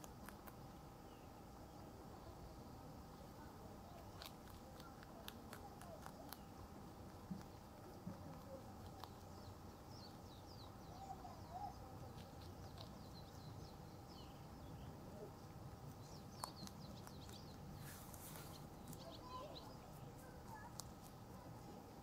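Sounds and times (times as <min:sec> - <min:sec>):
faint birds chirping: 0:00.0 - 0:22.0
rabbit nibbling leaf clicks: 0:00.0 - 0:22.0.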